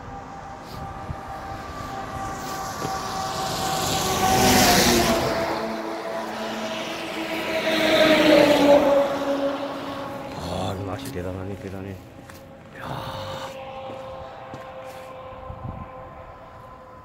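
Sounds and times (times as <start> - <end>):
vehicles passing on road: 0.0 - 17.0.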